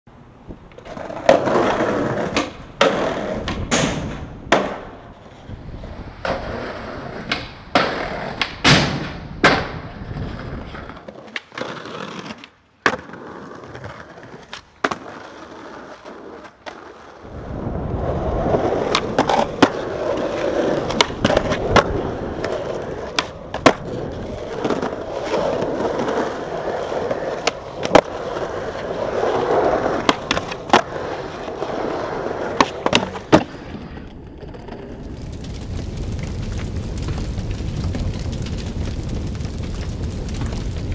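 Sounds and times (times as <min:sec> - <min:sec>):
skateboard wheels rolling on concrete: 0:00.1 - 0:40.9
skateboard clacks: 0:00.5 - 0:17.4, 0:18.0 - 0:35.2.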